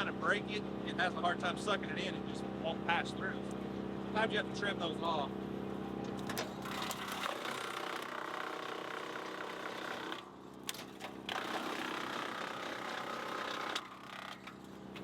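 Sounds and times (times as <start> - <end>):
wood chipper engine humming: 0.0 - 15.0.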